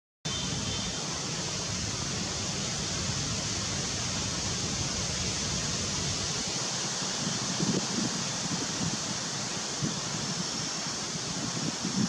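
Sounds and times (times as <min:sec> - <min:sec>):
outdoor background hiss: 0:00.3 - 0:12.0.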